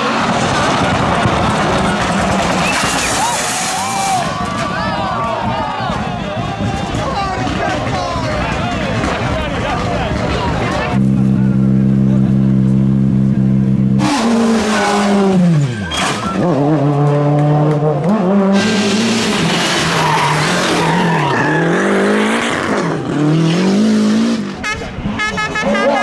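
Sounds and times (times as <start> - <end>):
rally car engine revving: 0.0 - 4.6, 7.4 - 26.0
tyres skidding: 0.0 - 26.0.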